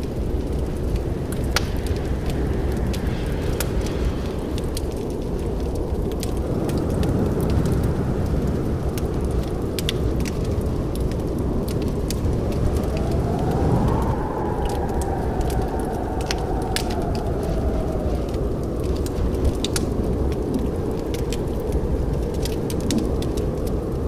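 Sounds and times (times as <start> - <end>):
fire crackles and pops: 0.0 - 24.0
wood fire flames rumbling: 0.0 - 24.0.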